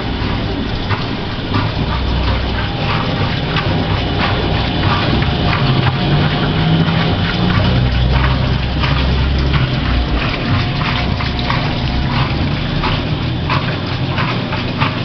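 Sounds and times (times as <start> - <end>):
washing machine humming: 0.0 - 15.0
water swishing in tub: 0.0 - 15.0.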